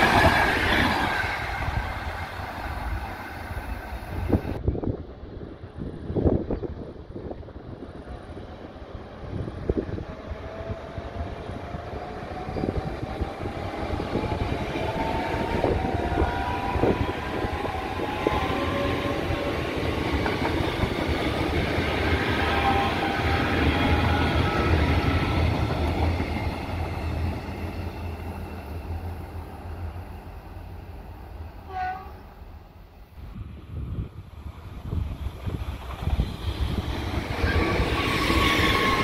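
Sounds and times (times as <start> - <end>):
train rumble: 0.0 - 39.0
electric train whine: 5.8 - 39.0.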